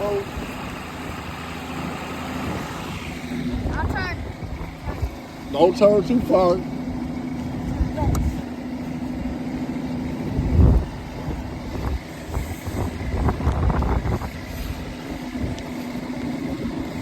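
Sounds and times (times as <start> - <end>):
outboard motor running: 0.0 - 17.0
wind buffeting microphone: 0.0 - 17.0.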